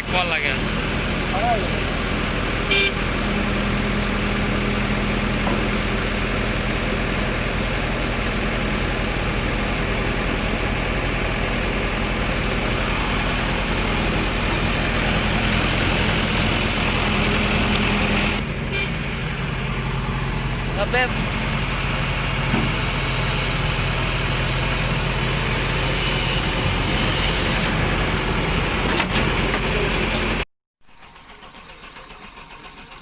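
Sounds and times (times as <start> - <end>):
diesel engine humming: 0.0 - 30.5.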